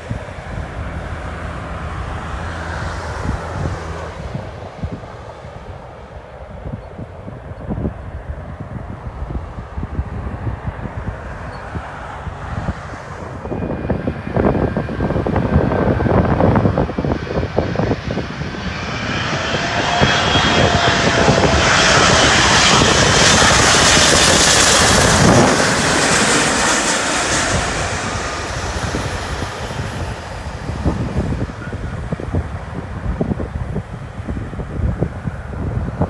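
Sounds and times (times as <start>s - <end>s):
jet airliner passing: 0.0s - 36.0s
wind gusts on microphone: 0.0s - 36.0s.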